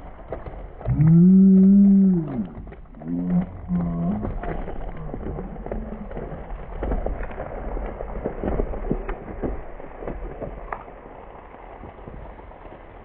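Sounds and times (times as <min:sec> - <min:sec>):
low rumble: 0:00.0 - 0:13.0
soda foaming with crackling fizz: 0:00.0 - 0:13.0.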